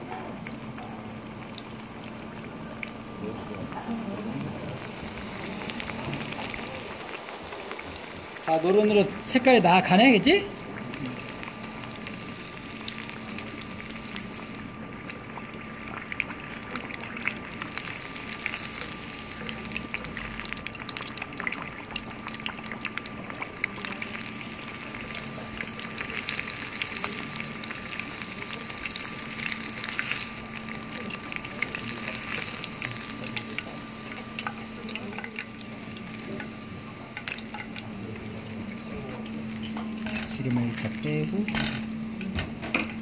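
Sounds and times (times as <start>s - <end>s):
oil sizzling deep-frying: 0.0s - 43.0s.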